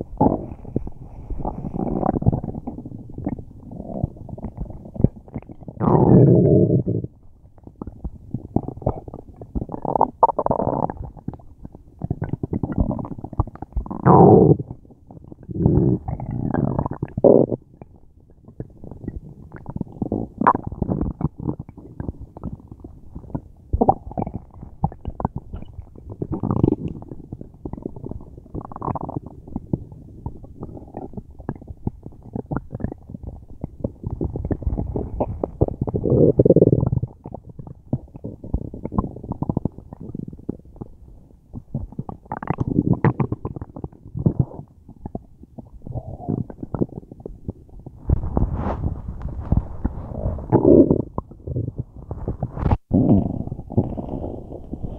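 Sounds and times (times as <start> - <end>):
stomach rumbling and gurgling: 0.0 - 54.9.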